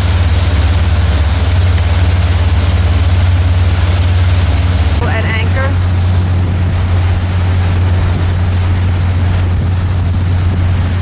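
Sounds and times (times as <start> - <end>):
boat engine droning: 0.0 - 11.0
wind and water noise: 0.0 - 11.0.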